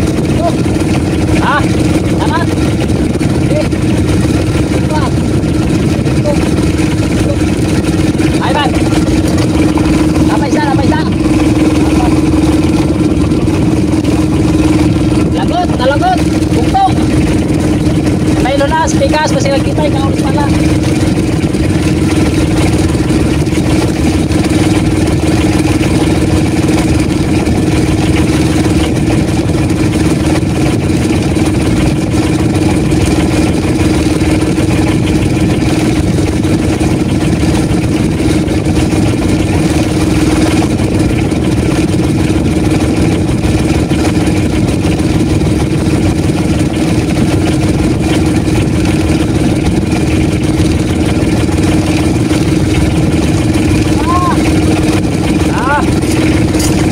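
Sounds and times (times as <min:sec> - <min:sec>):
boat engine running: 0:00.0 - 0:56.9.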